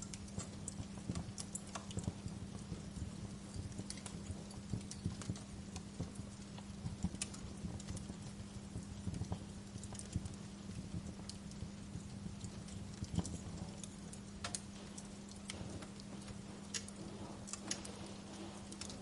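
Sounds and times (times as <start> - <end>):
steady low hum: 0.0 - 19.0
wood fire crackling and popping: 0.0 - 19.0.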